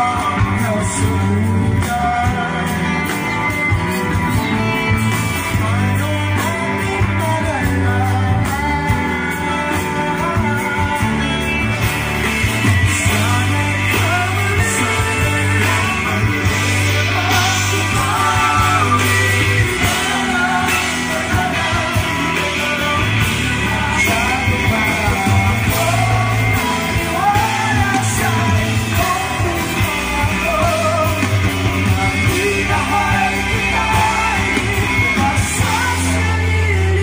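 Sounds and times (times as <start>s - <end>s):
audience yelling and singing along: 0.0s - 37.0s
lead vocalist singing: 0.0s - 37.0s
live band playing: 0.0s - 37.0s.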